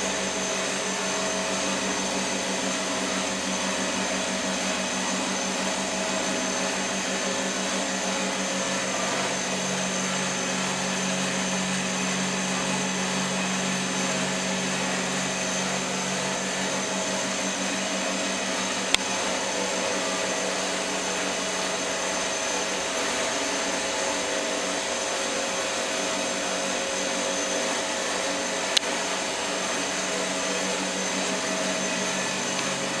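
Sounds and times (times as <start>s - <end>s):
machinery humming and whirring: 0.0s - 33.0s.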